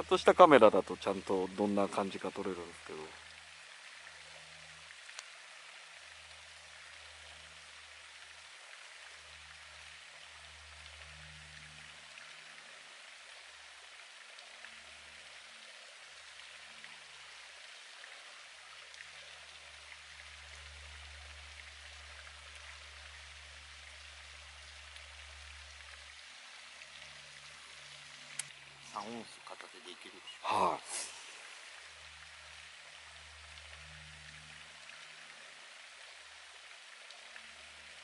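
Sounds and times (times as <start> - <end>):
faint watery hiss: 0.0 - 38.0.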